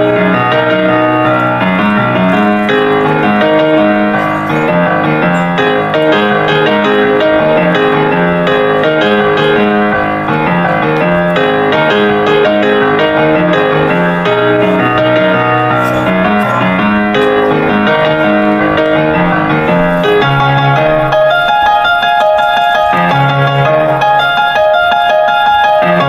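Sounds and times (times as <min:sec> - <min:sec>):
instrumental piano music: 0:00.0 - 0:26.0.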